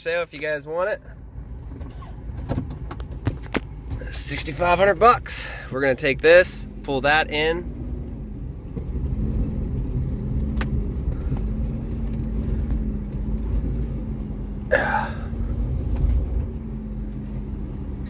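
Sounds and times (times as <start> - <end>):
vehicle engine idling: 0.4 - 18.0.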